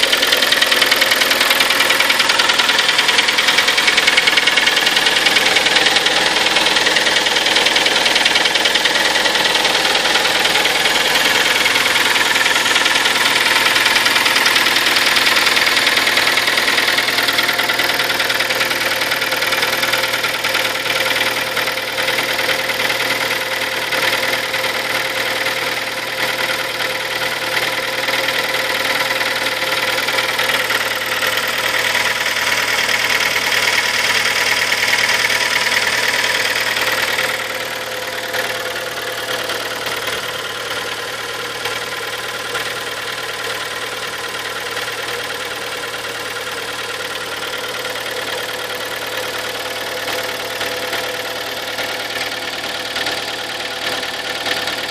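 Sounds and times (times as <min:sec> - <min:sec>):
car engine idling with knocking: 0:00.0 - 0:54.9.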